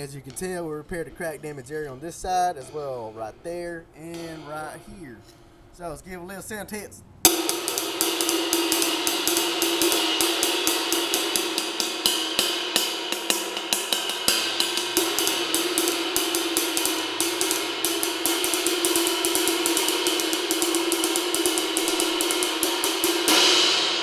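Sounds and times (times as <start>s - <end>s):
low cymbal tone: 0.0s - 24.0s
ride cymbal struck with stick: 3.8s - 6.3s, 7.2s - 24.0s.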